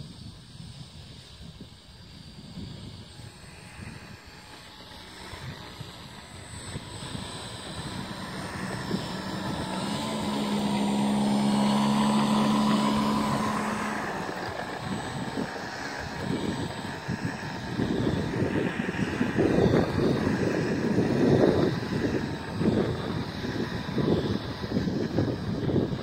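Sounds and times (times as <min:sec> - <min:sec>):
model plane motor buzzing: 0:00.0 - 0:26.0.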